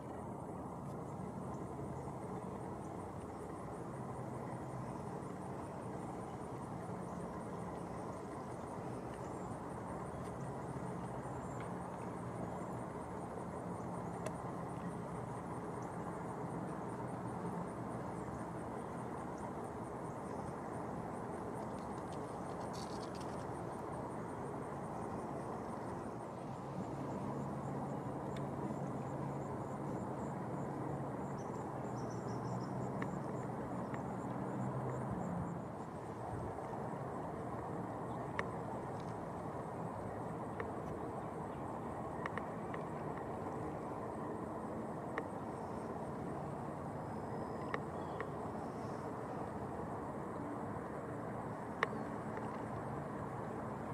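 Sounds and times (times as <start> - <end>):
distant road traffic: 0.3 - 53.9.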